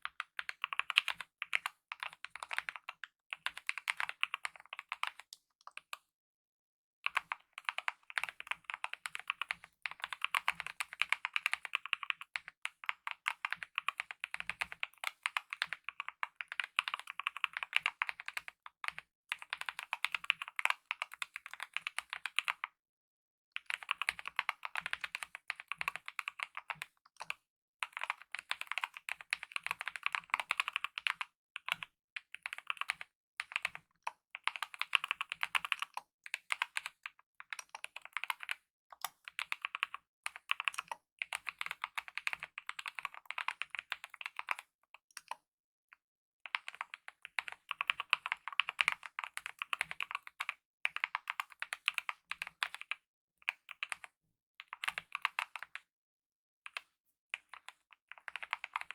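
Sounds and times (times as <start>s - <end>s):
fast mechanical keyboard typing: 0.0s - 5.3s, 7.1s - 22.6s, 23.6s - 33.8s, 34.4s - 45.3s, 46.5s - 55.8s, 57.4s - 58.9s.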